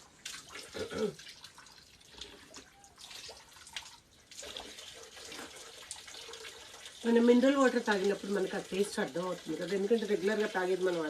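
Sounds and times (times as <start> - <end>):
spring water trickling and dripping: 0.0 - 11.0.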